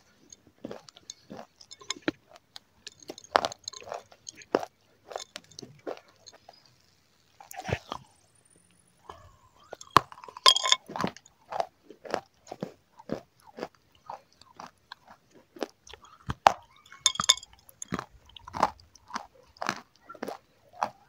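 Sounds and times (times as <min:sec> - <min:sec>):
crunching chews: 0:00.1 - 0:08.2, 0:09.1 - 0:21.0.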